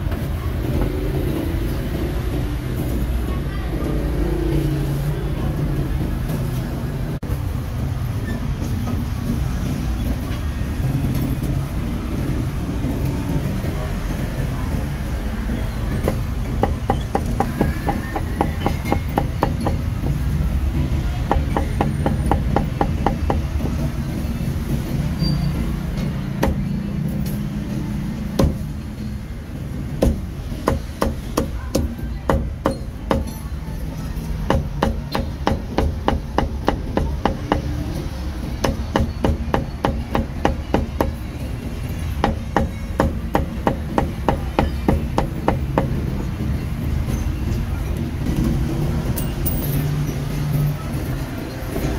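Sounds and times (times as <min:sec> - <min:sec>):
low rumble of street noise: 0:00.0 - 0:51.9.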